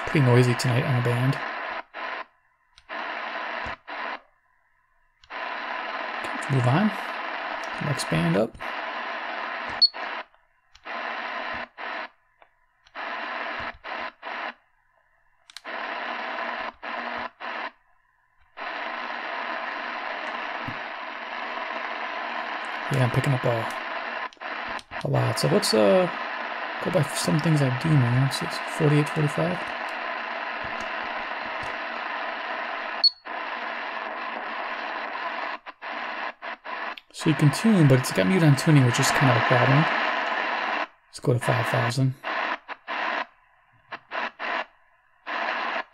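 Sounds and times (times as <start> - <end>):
radio static hiss: 0.0 - 4.3, 5.2 - 14.7, 15.5 - 45.9.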